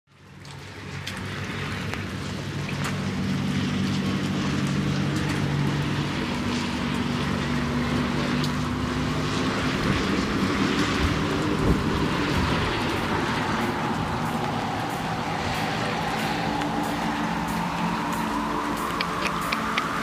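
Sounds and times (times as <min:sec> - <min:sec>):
low hum: 0:00.1 - 0:20.0
rain falling on puddles: 0:00.1 - 0:20.0.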